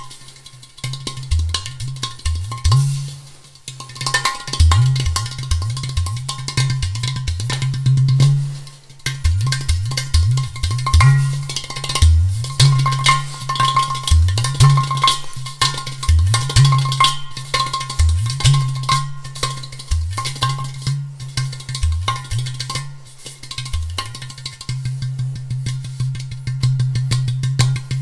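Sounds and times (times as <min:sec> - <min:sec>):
clay pot drum booms: 0:00.8 - 0:28.0
taps on clay drum body: 0:00.8 - 0:28.0.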